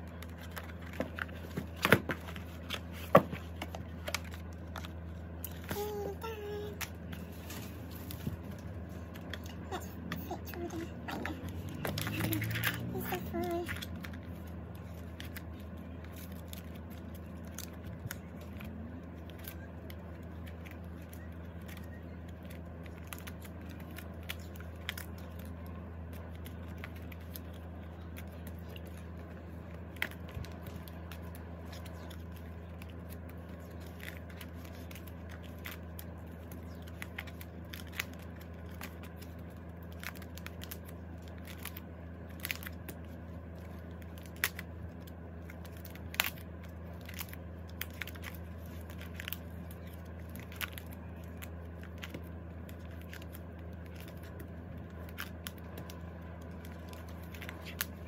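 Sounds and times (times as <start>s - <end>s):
plastic sleeves crinkling: 0.0s - 58.0s
steady low hum: 0.0s - 58.0s.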